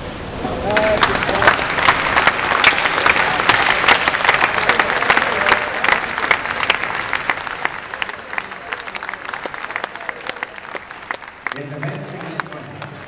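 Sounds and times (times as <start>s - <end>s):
voices in crowd: 0.3s - 13.0s
audience applauding: 0.5s - 13.0s.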